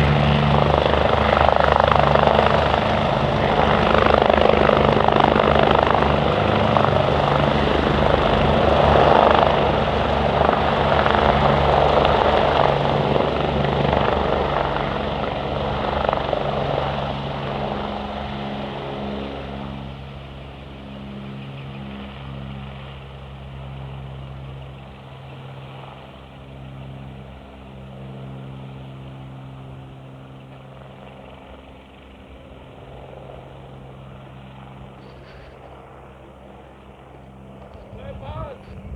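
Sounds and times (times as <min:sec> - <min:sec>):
helicopters flying past: 0:00.0 - 0:38.9.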